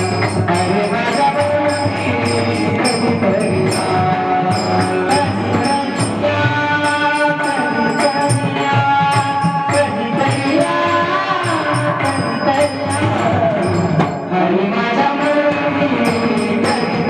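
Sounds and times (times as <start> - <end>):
wavering devotional melody: 0.0 - 17.0.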